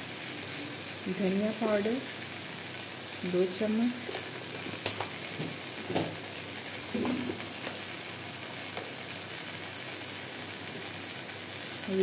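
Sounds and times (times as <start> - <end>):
masala frying in a pan: 0.0 - 12.0.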